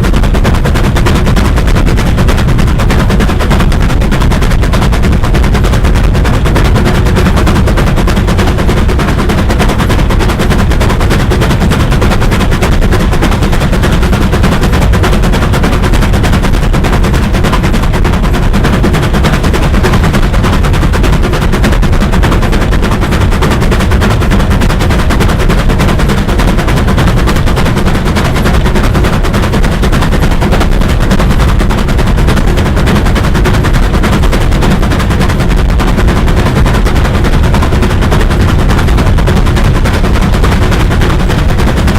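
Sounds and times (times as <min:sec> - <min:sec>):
steam locomotive exhaust beats: 0:00.0 - 0:41.9.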